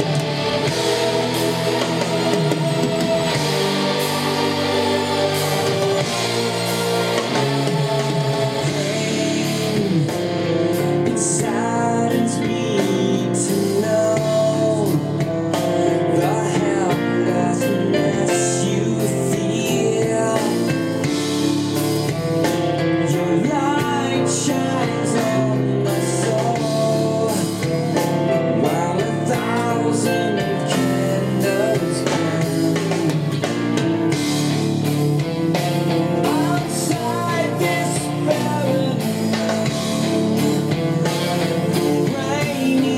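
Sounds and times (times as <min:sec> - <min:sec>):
song with singing guitar and drums: 0:00.0 - 0:42.9.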